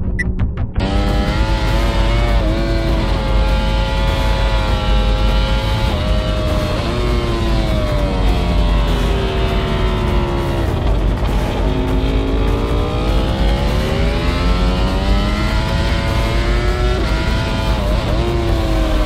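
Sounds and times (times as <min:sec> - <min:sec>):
motorcycle engine pulling hard: 0:00.8 - 0:19.0.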